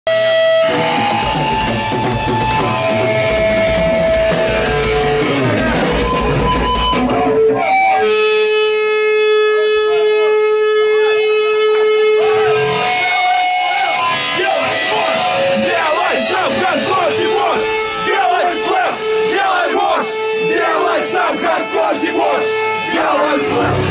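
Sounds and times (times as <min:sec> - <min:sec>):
heavy rock music: 0:00.1 - 0:23.9.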